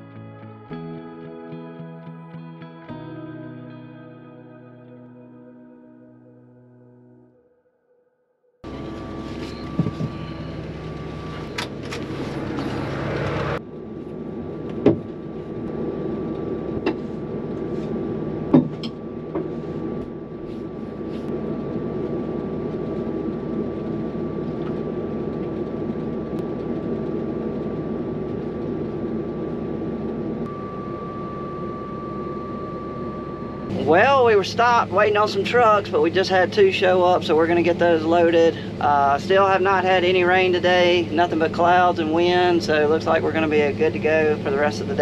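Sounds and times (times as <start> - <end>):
machinery engine drone with whine: 8.6 - 45.0.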